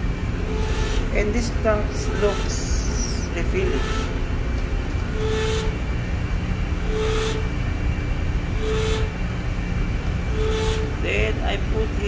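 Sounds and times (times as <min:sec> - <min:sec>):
recovery machine humming: 0:00.0 - 0:12.0.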